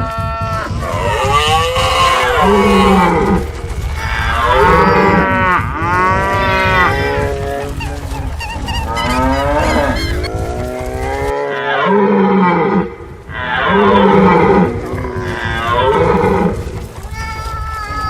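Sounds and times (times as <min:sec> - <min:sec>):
low rumble: 0:00.0 - 0:11.4, 0:12.6 - 0:18.0
cattle mooing: 0:00.0 - 0:17.6.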